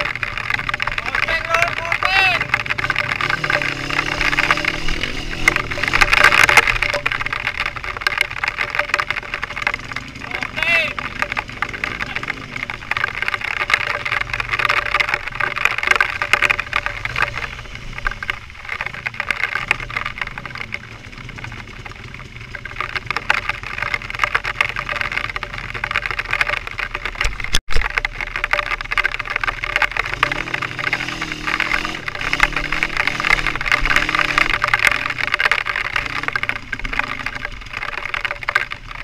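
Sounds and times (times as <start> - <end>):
small crackles and knocks: 0.0 - 39.0
vehicle engine and road noise: 0.0 - 39.0.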